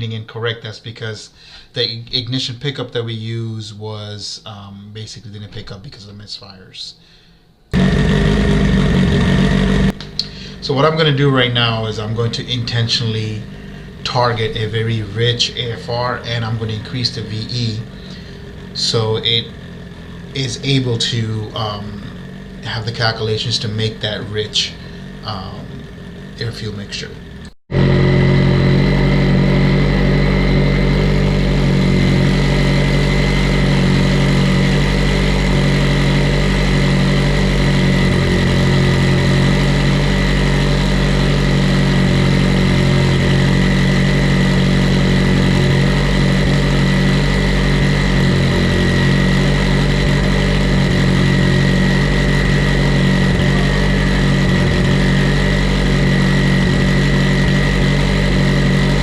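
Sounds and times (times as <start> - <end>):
car engine running on a dyno: 7.7 - 59.0.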